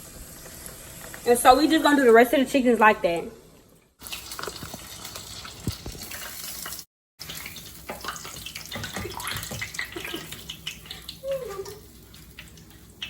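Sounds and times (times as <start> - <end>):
chicken frying in hot oil: 0.0 - 2.2, 4.0 - 13.0.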